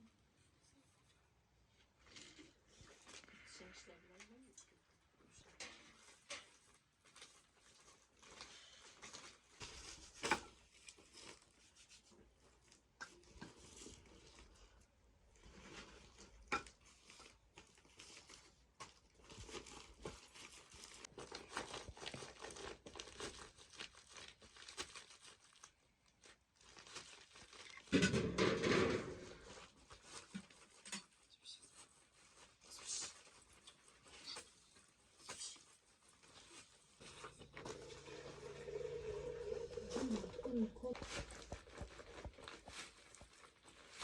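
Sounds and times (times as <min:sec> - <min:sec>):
rustling and crinkling: 0:00.0 - 0:44.0.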